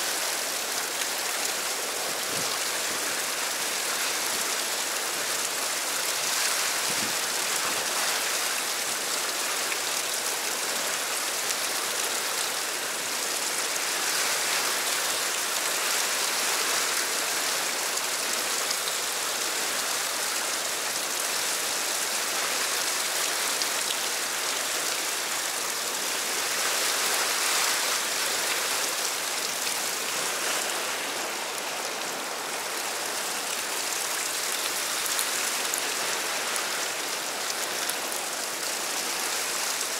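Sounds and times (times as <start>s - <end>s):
whitewater rushing over rocks: 0.0s - 39.9s.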